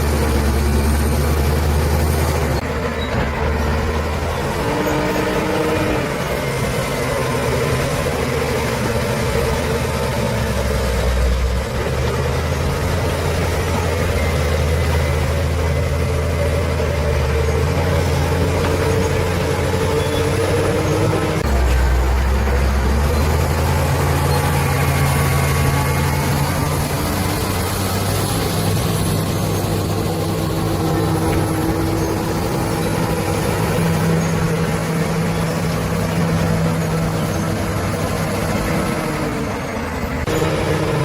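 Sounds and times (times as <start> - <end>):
bulldozer diesel engine droning: 0.0 - 41.0.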